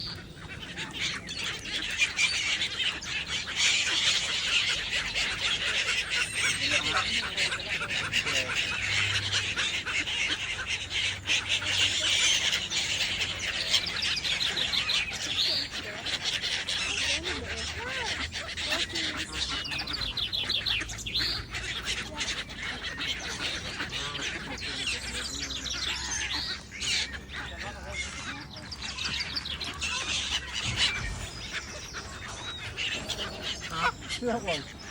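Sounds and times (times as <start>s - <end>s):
flock of waterbirds squawking: 0.0s - 34.9s.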